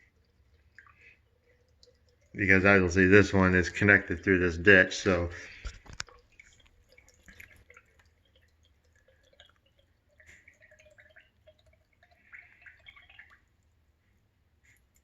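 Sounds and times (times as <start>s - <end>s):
small water drips: 0.0s - 15.0s
water trickling into a pit: 0.0s - 15.0s.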